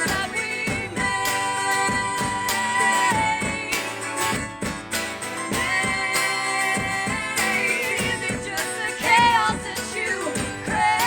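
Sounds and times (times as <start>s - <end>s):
strummed acoustic guitar: 0.0s - 11.0s
sung vocal harmonies: 0.0s - 11.0s.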